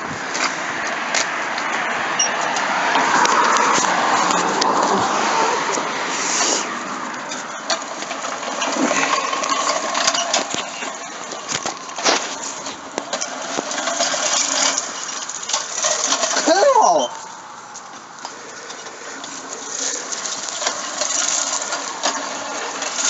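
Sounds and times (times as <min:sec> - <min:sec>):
reel lawnmower clattering: 0:00.0 - 0:23.0.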